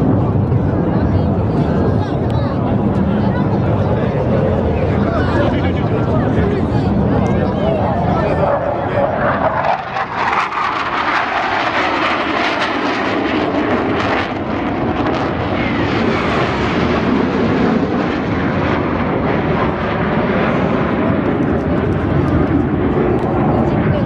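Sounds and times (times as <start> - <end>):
jets flying past: 0.0 - 24.0.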